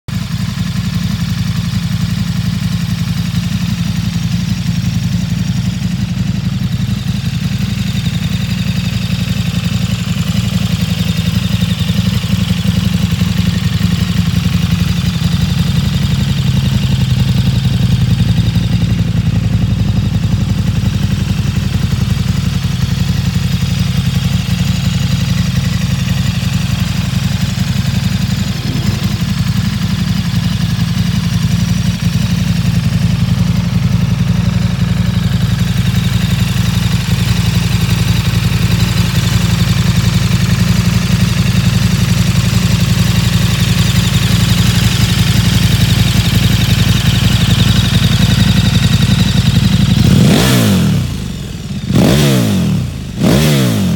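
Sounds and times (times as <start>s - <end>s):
motorcycle engine idling: 0.0s - 53.9s.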